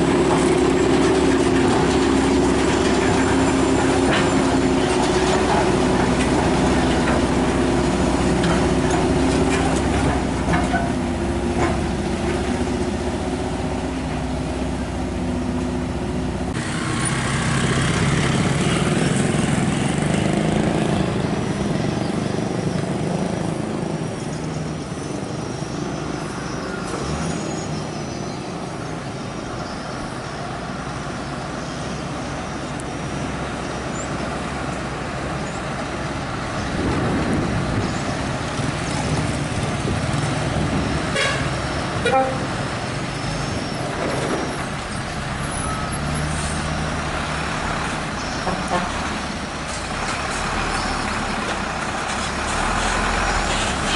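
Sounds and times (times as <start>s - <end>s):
heavy truck engine running: 0.0s - 53.9s
road and traffic noise: 0.0s - 53.9s.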